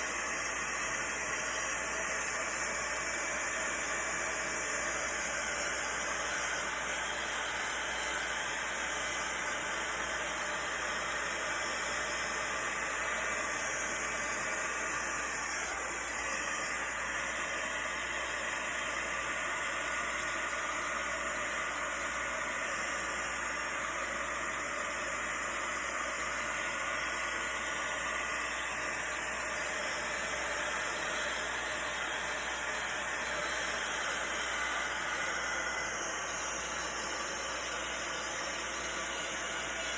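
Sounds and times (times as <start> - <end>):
heat gun blowing hot air: 0.0 - 39.9.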